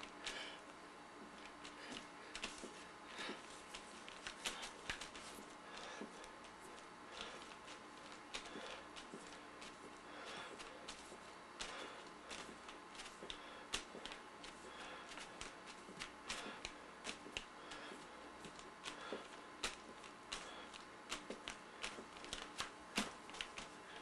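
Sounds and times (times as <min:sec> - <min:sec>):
fingertips patting wet paint: 0:01.2 - 0:24.0.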